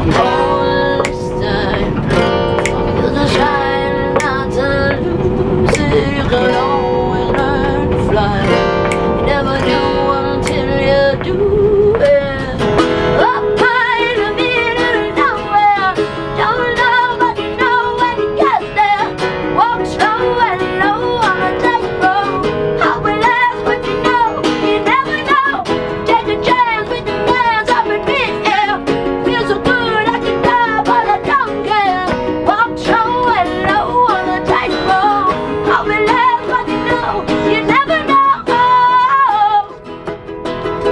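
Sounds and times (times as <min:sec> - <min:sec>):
woman singing with vibrato: 0:00.0 - 0:39.9
acoustic guitar: 0:00.0 - 0:40.9
strummed ukulele: 0:00.0 - 0:40.9.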